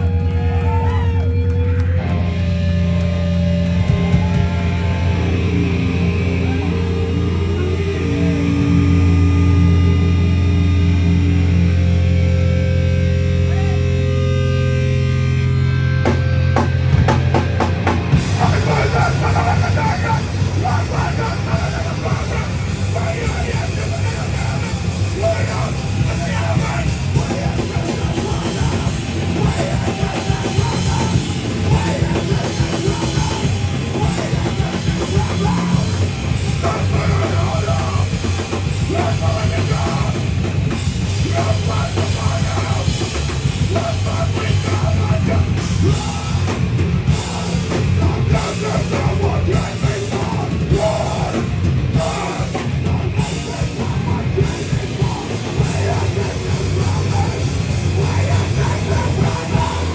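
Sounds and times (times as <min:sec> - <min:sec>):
drum kit: 0:00.0 - 0:14.4, 0:15.0 - 0:59.9
bass guitar: 0:00.0 - 0:59.9
distorted guitars: 0:00.0 - 0:59.9
heavy band playing live: 0:00.0 - 0:59.9.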